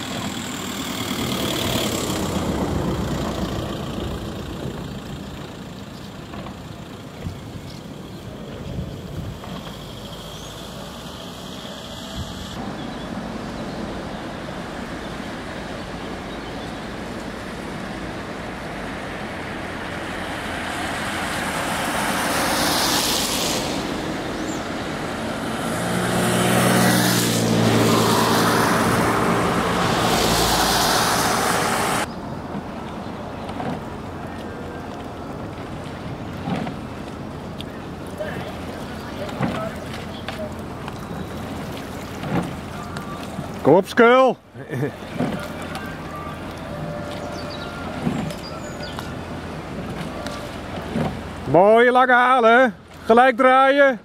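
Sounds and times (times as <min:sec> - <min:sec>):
low engine hum: 0:00.0 - 0:51.6
road traffic rushing: 0:00.0 - 0:54.0.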